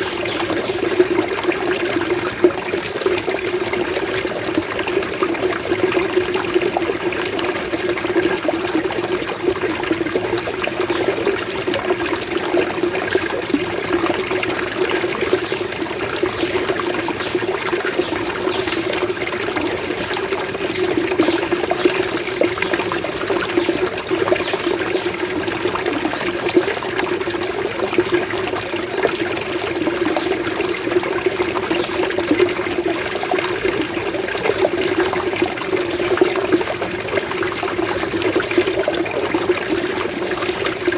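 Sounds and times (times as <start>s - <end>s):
stream gurgling: 0.0s - 40.9s.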